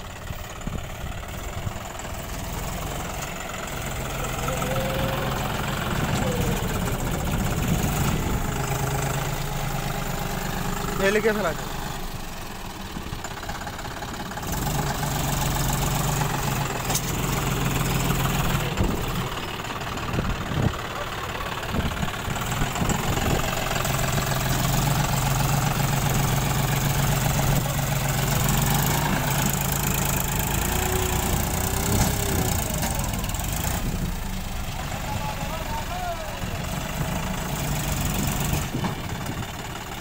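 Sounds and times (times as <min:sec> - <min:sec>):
tractor diesel engine under heavy load: 0:00.0 - 0:40.0.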